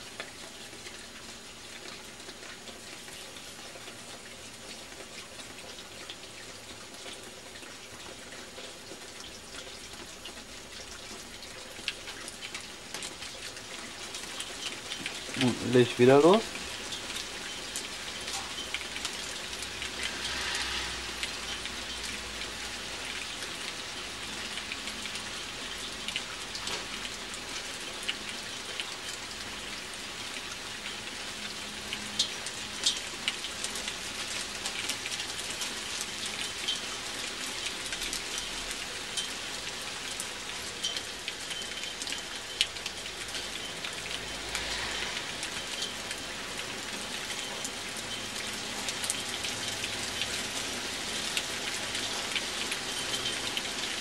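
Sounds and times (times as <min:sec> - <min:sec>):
rain pattering on balcony: 0:00.0 - 0:54.0.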